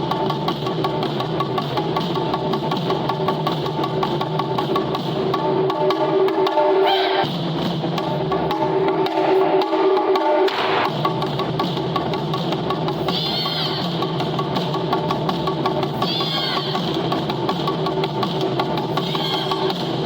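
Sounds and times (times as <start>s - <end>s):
taiko drums fast rhythm: 0.0s - 20.0s.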